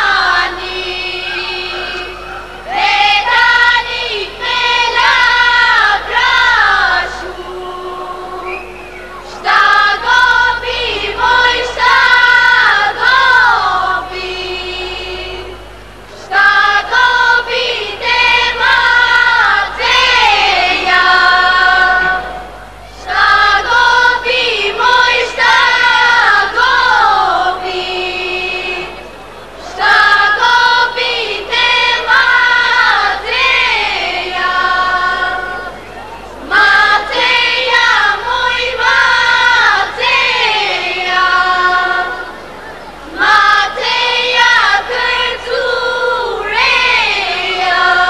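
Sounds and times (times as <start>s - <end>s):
girls singing folk song: 0.0s - 48.0s.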